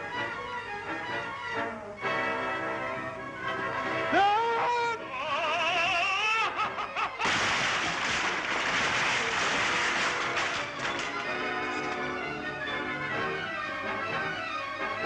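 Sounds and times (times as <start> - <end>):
orchestral film music: 0.0 - 15.0.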